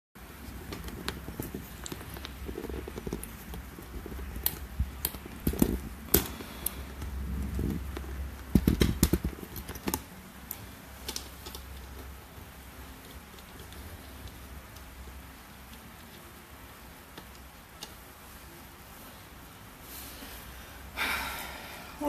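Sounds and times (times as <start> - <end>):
low steady hum: 0.2 - 22.0.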